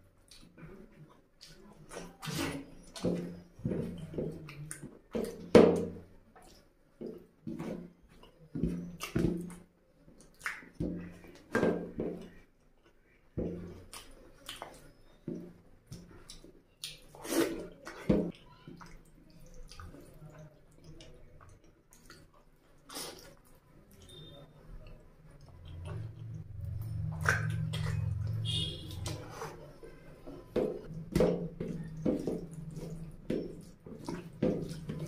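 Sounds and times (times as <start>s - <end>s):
chewing with wet smacking: 0.0s - 35.0s
fingers squelching through food: 0.0s - 35.0s.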